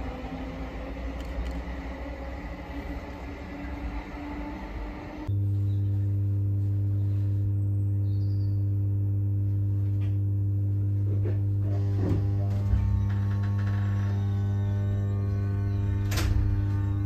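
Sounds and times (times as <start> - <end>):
electrical hum in train carriage: 0.0 - 17.0.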